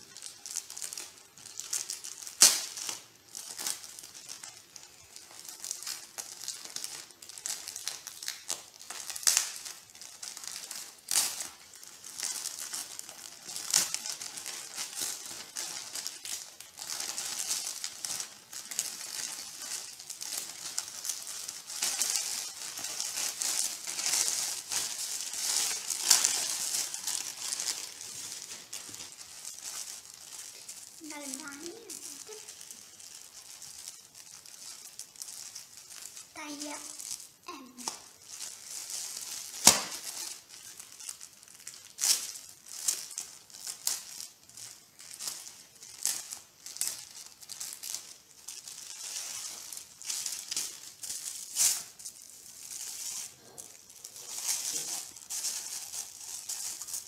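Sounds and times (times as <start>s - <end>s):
plastic mailer bag crinkling: 0.0s - 57.0s
plastic sleeve crinkling: 0.0s - 57.0s.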